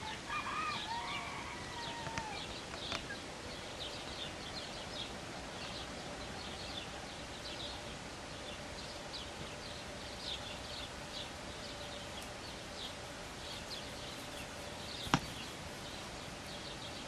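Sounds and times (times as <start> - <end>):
small bird chirping: 1.8 - 17.0.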